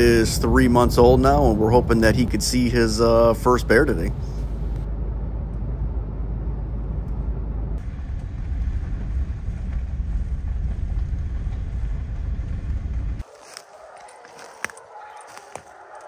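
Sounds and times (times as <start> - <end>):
vehicle road and engine rumble: 0.0 - 13.3.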